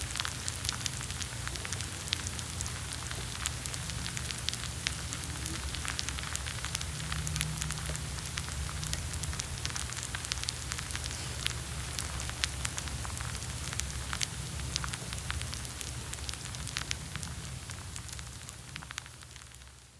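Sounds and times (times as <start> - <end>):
coffee grounds crackling and fizzing: 0.0 - 19.9
low steady hum: 0.0 - 19.9.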